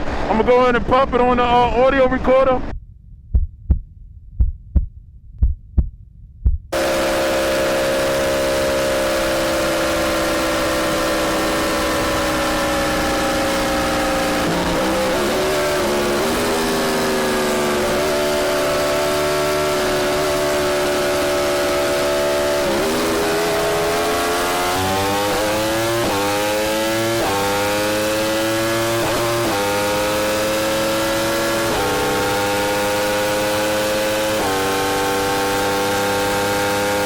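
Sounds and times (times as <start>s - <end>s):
motorcycle engine revving: 6.7s - 37.0s.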